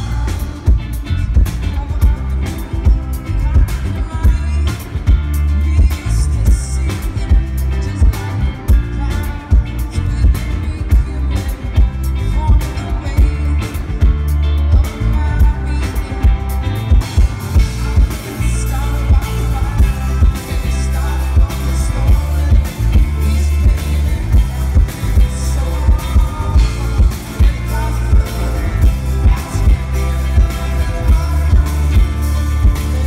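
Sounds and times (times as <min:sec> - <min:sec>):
live rock band playing: 0:00.0 - 0:33.0
person singing: 0:00.0 - 0:33.0.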